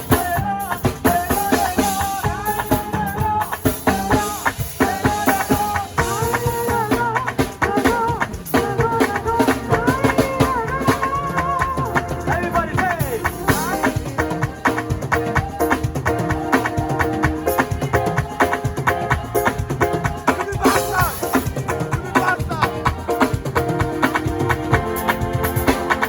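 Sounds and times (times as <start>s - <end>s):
drums beating: 0.0s - 26.0s.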